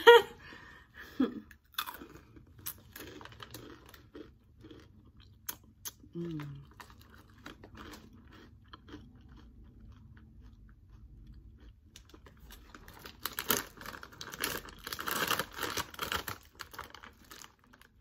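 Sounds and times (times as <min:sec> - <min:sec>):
crunching and chewing chips: 0:01.5 - 0:18.0.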